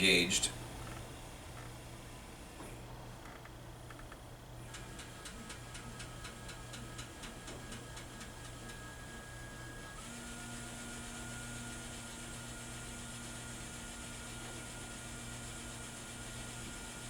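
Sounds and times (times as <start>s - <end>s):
faint machine whine: 0.0s - 17.0s
steady hiss with low hum: 0.0s - 17.0s.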